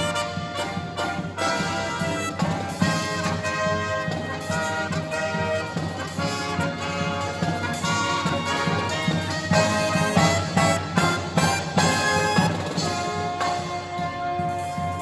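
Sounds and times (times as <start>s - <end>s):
brass marching band playing: 0.0s - 15.0s.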